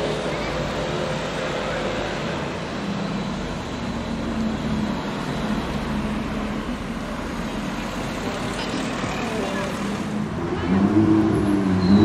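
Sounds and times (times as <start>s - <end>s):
car engine drone: 0.0s - 12.0s
street traffic noise: 0.0s - 12.0s.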